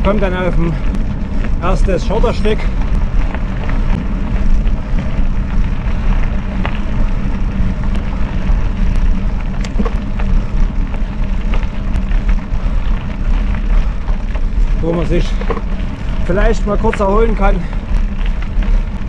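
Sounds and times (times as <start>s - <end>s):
bike tyres rumbling on gravel: 0.0s - 19.0s.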